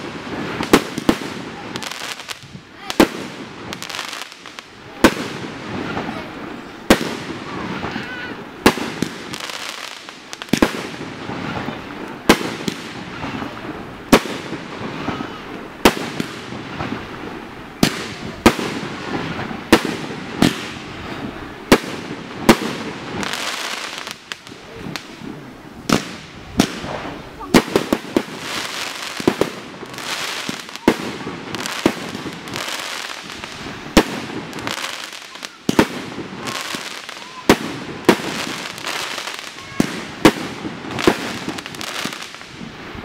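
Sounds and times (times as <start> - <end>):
fireworks bangs: 0.0 - 43.0
fireworks hiss and crackle: 0.0 - 43.0.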